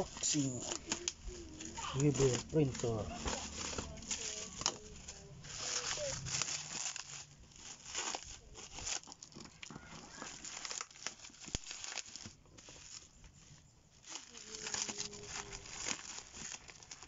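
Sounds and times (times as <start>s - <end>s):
plastic wrapping crinkling and tearing: 0.0s - 17.0s.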